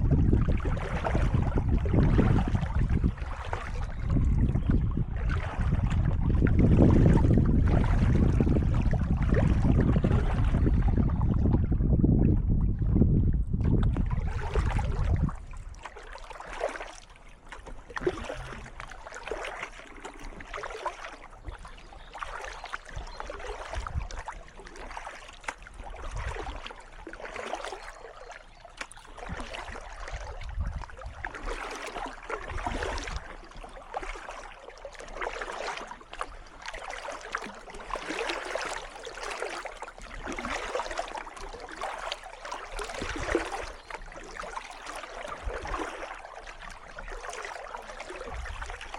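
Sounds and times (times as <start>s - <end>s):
water trickling off paddle: 0.0s - 12.8s, 13.4s - 48.9s
paddle splashing in water: 0.0s - 48.9s.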